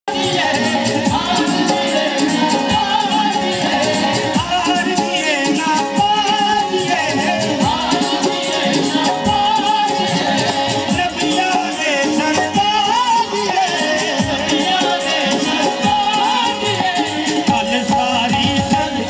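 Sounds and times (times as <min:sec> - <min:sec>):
harmonium chords: 0:00.0 - 0:19.0
man singing lead: 0:00.0 - 0:19.0
percussion beat: 0:00.1 - 0:19.0.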